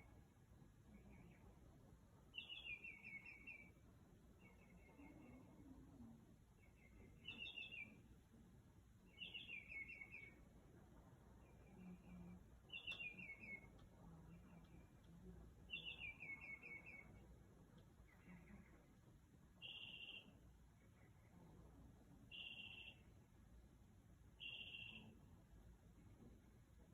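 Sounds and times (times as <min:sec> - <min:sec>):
songbird chirping: 0:00.0 - 0:26.9.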